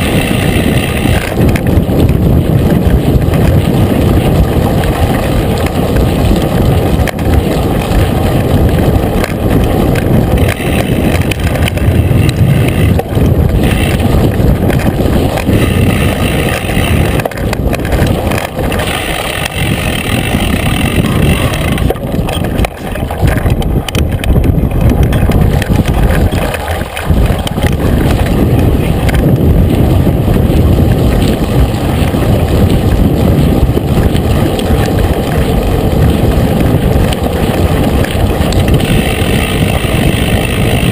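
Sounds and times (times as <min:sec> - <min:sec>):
bike rattling: 0:00.0 - 0:40.9
bike tyres rumbling on gravel: 0:00.0 - 0:40.9
wind on microphone: 0:00.0 - 0:40.9.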